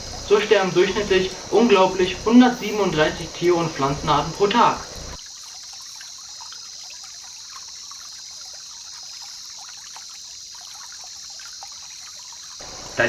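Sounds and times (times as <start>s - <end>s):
high-pitched insect chorus: 0.0s - 13.0s
water trickling and dripping: 0.0s - 13.0s.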